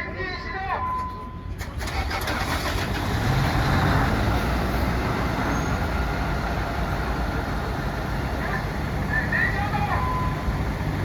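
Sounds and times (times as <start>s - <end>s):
fire truck engine rumbling: 1.0s - 11.0s.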